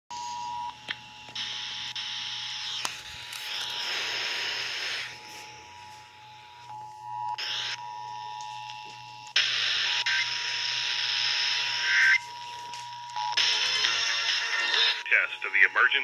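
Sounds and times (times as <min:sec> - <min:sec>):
radio static hiss: 0:01.4 - 0:16.0.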